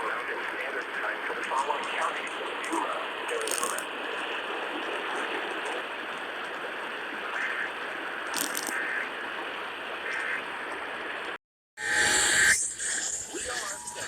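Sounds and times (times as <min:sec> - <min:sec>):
faint crackle: 0:00.0 - 0:11.4
radio static hiss: 0:00.0 - 0:14.0.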